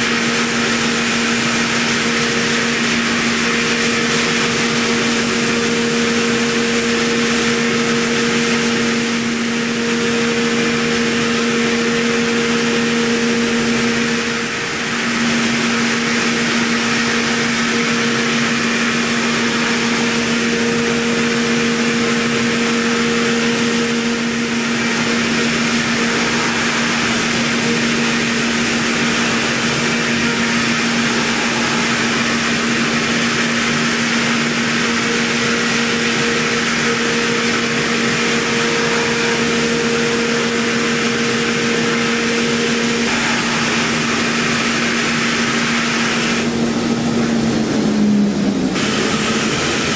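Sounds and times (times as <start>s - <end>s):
high machining tone: 0.0s - 49.9s
milling machine spindle hum: 0.0s - 49.9s.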